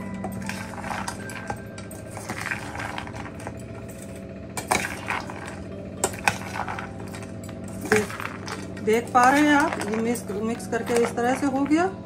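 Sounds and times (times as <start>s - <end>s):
metal spoon scraping steel bowl: 0.3s - 11.8s.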